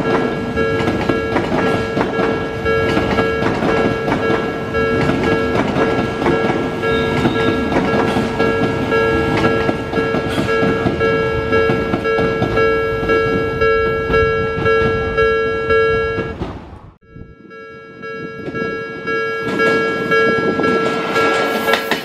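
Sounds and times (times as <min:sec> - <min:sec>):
train wheels clattering: 0:00.0 - 0:15.4, 0:18.2 - 0:22.0
level-crossing bell dinging: 0:00.0 - 0:16.4, 0:17.0 - 0:22.0.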